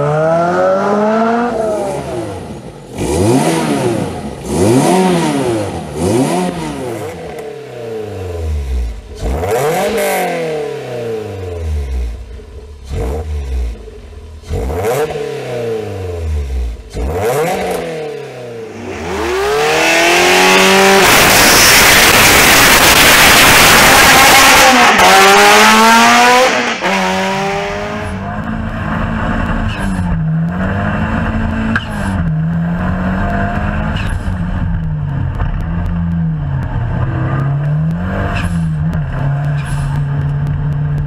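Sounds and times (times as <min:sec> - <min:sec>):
car engine accelerating: 0:00.0 - 0:41.0
car engine revving: 0:00.0 - 0:41.0.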